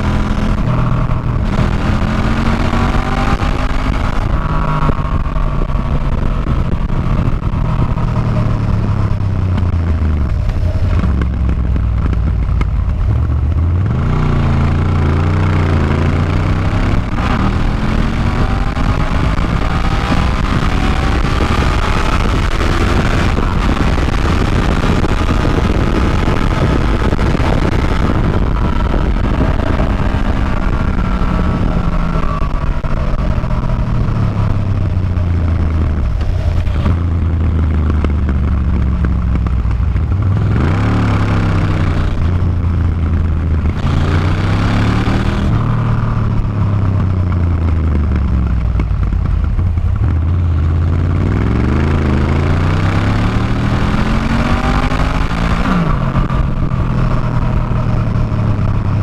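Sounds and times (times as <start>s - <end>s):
motorcycle engine revving: 0.0s - 59.0s
steady rush of noise: 0.0s - 59.0s.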